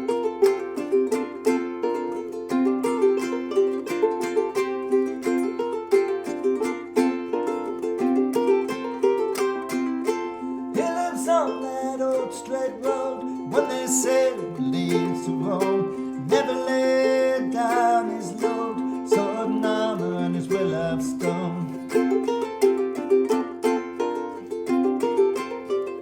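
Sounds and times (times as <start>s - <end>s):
person singing: 0.0s - 26.0s
ukulele plucked and brushed: 0.0s - 26.0s.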